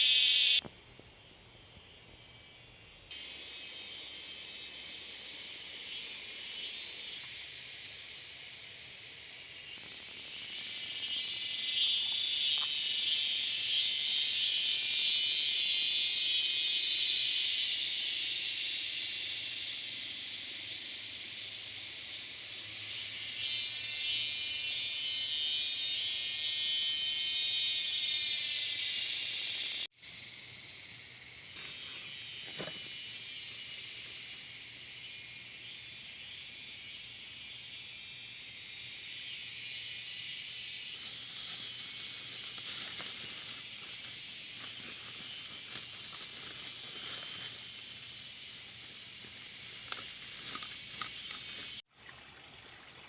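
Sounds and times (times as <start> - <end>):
insects buzzing: 0.0 - 53.0.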